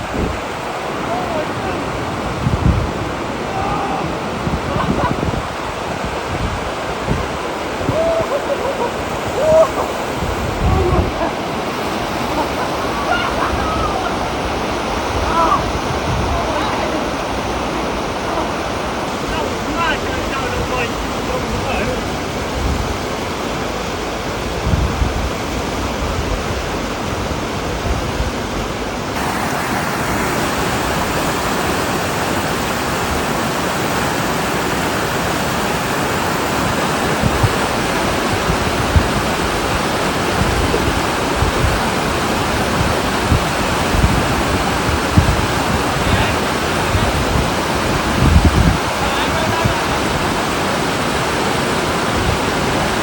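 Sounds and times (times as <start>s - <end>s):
rushing river water: 0.0s - 53.0s.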